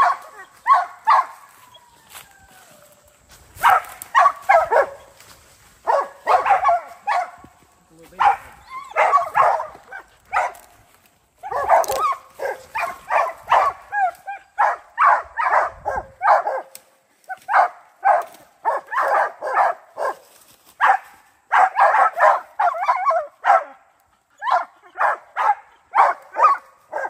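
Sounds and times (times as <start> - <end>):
dogs barking: 0.0 - 1.8, 3.6 - 5.2, 5.8 - 7.4, 8.1 - 10.8, 11.4 - 20.2, 20.8 - 27.0.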